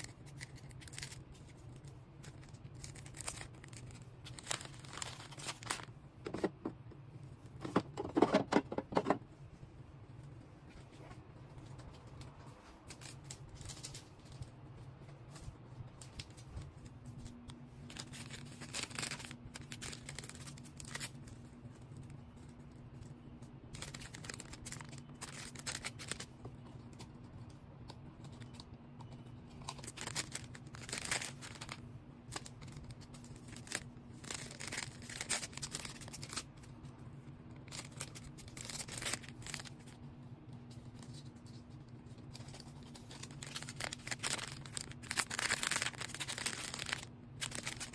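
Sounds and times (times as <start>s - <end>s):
wrapping material rustling and tearing: 0.0s - 6.0s, 10.8s - 26.4s, 29.5s - 36.9s, 37.5s - 47.9s
cutting and handling noises: 0.0s - 6.5s, 11.1s - 47.9s
low steady hum: 0.0s - 47.9s.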